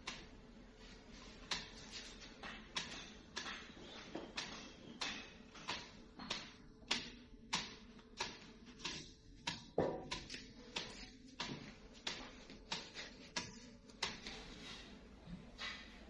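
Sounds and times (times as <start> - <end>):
stick beating leafy stalks: 1.4 - 14.6.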